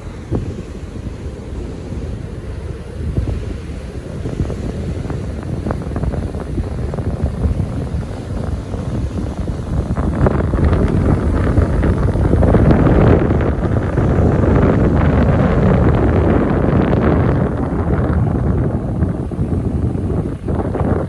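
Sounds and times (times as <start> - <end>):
ocean surf washing on beach: 0.0 - 21.0
wind buffeting microphone: 0.0 - 21.0.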